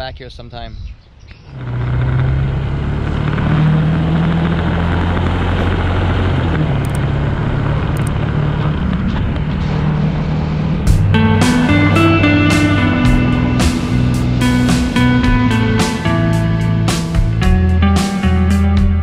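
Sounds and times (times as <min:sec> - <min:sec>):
wind and road noise: 0:00.0 - 0:18.4
motorcycle engine droning: 0:01.5 - 0:19.0.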